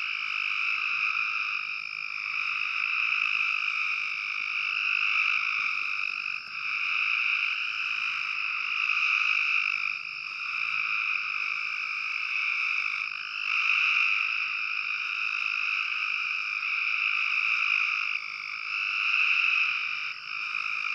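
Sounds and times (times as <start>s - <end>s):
treefrogs trilling in chorus: 0.0s - 20.9s.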